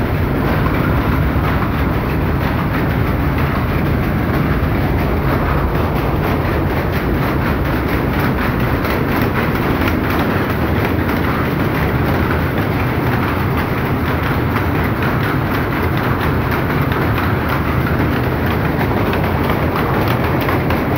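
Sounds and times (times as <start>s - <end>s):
powerlooms clattering: 0.0s - 20.9s.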